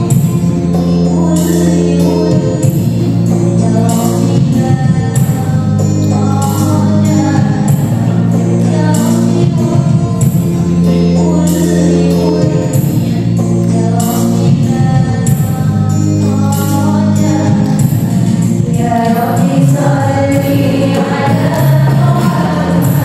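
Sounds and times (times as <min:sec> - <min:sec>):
held keyboard chords: 0:00.0 - 0:23.0
person singing: 0:00.0 - 0:23.0.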